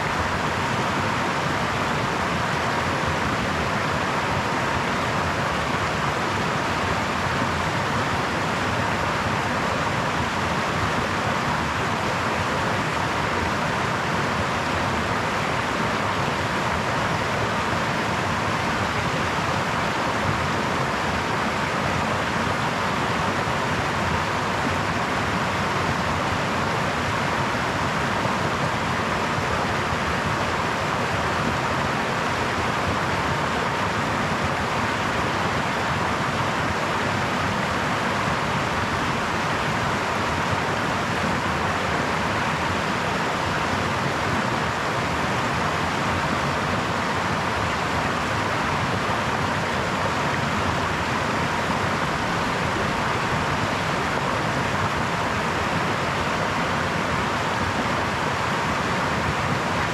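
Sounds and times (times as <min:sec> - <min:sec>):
brook water babbling: 0:00.0 - 0:59.9.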